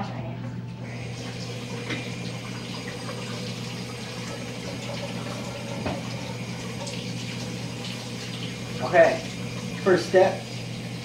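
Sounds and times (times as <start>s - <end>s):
tap water running: 0.8s - 11.0s.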